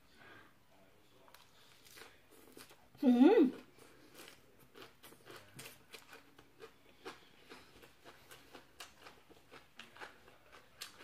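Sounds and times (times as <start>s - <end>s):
chewing with soft crunches: 1.1s - 2.9s, 3.5s - 11.0s.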